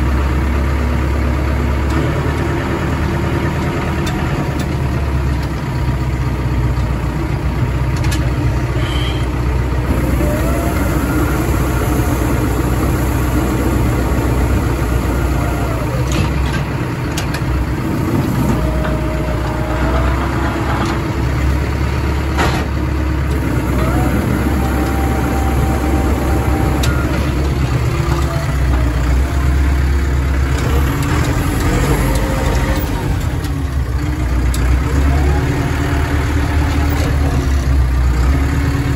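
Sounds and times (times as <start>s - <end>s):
large engine running: 0.0s - 38.9s.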